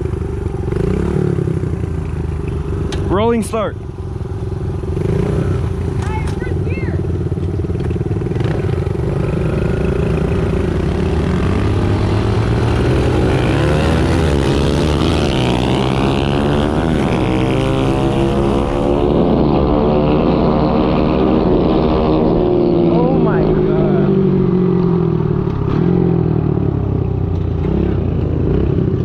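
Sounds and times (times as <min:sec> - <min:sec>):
small motorbike engines accelerating: 0:00.0 - 0:29.0.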